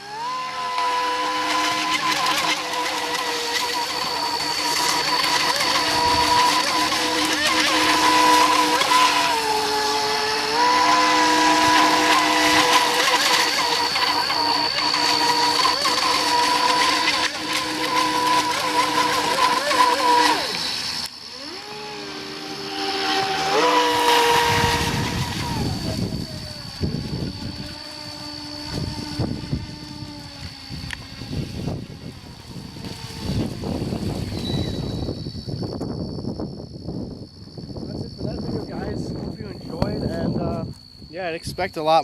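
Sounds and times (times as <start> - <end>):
toy boat motor whining: 0.0 - 36.2.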